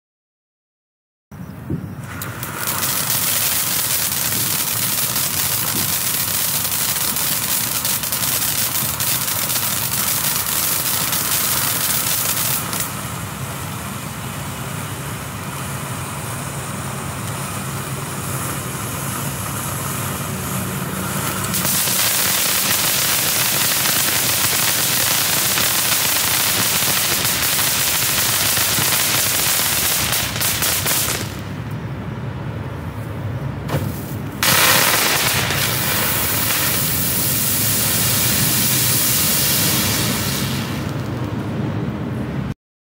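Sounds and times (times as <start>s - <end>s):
firework fountain hissing and crackling: 2.0s - 31.8s, 33.7s - 41.5s.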